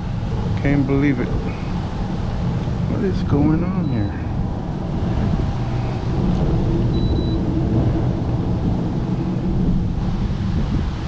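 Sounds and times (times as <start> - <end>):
rain falling: 0.0 - 11.0
steady low rumble: 0.0 - 11.0.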